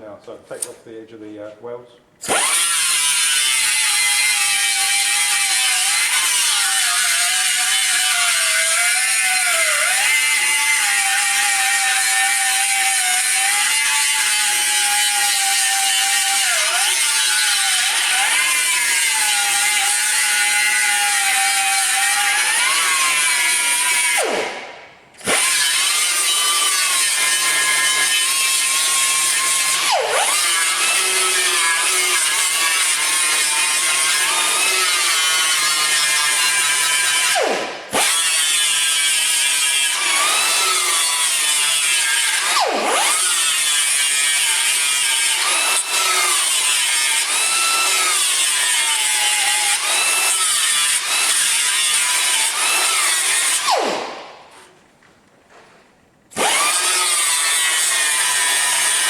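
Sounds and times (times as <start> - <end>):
electric grinder grinding metal: 2.2 - 24.3, 25.2 - 53.8, 56.3 - 59.0.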